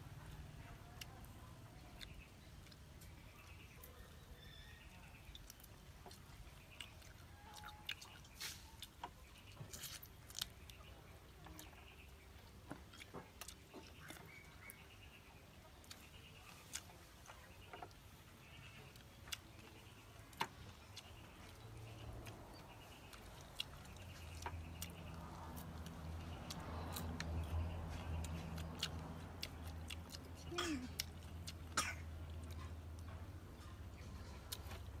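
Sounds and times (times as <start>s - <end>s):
chewing and crunching: 0.0s - 35.0s.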